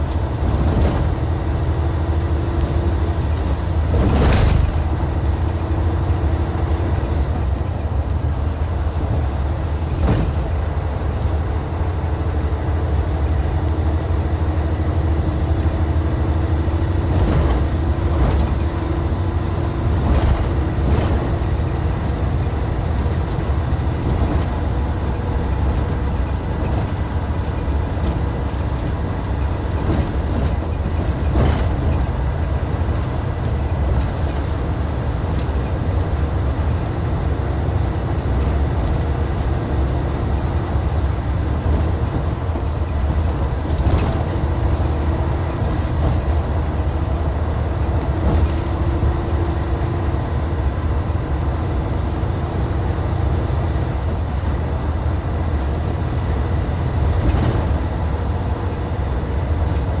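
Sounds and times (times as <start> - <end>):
bus diesel engine droning: 0.0 - 60.0.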